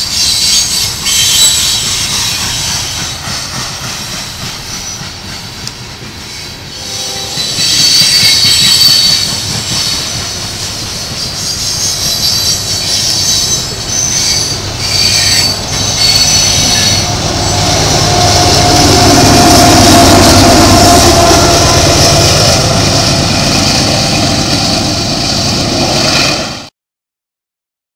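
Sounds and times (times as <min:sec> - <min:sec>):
steel wheels squealing: 0:00.0 - 0:05.5, 0:06.2 - 0:26.6
diesel locomotive engine: 0:00.0 - 0:26.7
wheels rumbling on rail: 0:00.0 - 0:26.7.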